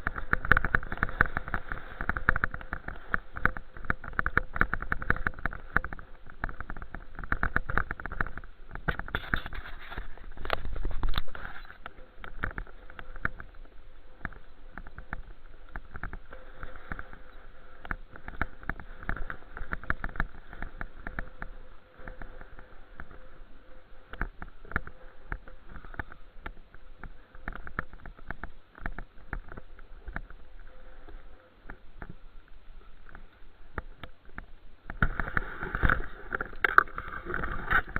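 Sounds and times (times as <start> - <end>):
bicycle knocks and rattles: 0.0 - 32.2, 32.8 - 37.9
wind noise on camera: 0.0 - 37.9.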